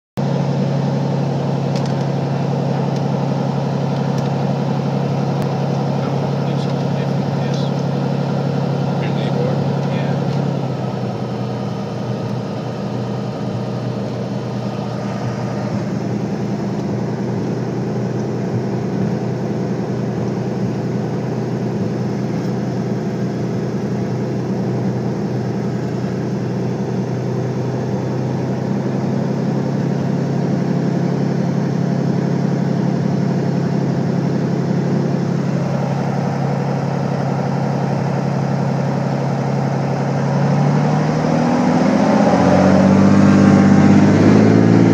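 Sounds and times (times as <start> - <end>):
aircraft engine and propeller drone: 0.2 - 44.9.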